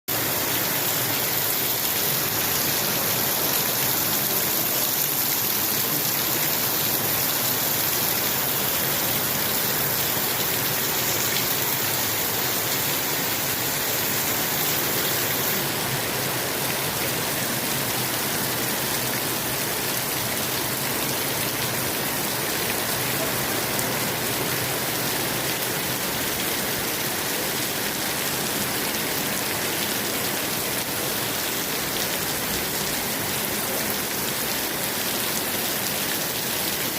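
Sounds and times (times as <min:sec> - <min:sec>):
heavy rain pouring: 0:00.1 - 0:36.9.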